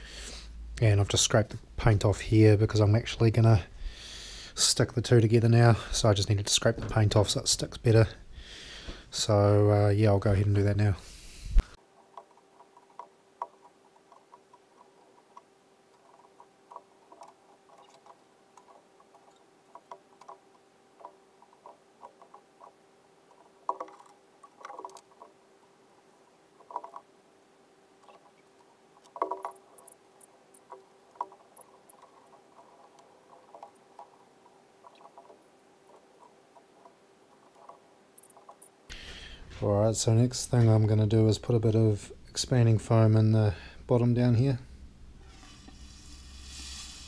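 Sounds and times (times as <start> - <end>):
faint hum: 0.0 - 47.0.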